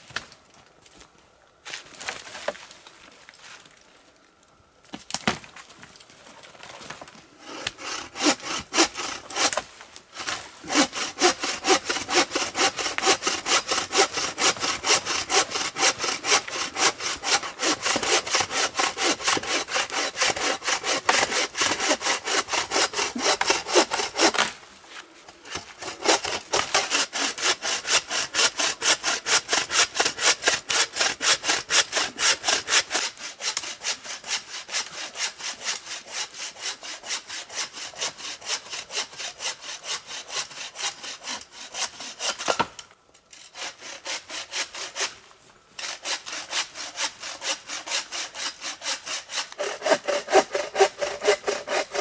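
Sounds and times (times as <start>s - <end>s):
hand saw cutting wood: 7.4s - 24.6s, 25.3s - 45.2s, 45.8s - 52.0s.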